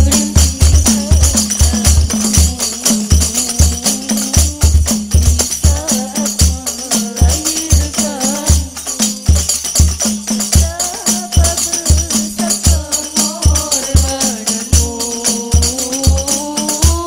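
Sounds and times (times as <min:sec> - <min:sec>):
girls singing: 0:00.0 - 0:09.8, 0:10.5 - 0:17.0
frame drums with jingles: 0:00.0 - 0:17.0.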